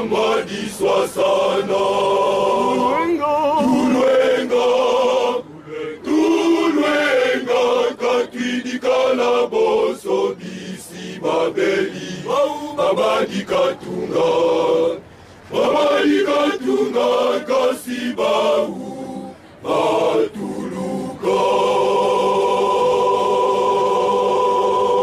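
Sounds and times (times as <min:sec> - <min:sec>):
men's choir singing: 0:00.0 - 0:25.0.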